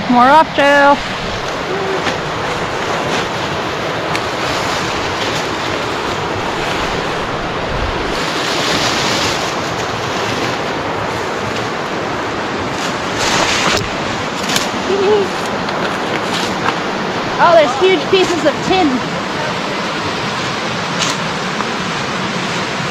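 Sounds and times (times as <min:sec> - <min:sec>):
creek water rushing: 0:00.0 - 0:22.9.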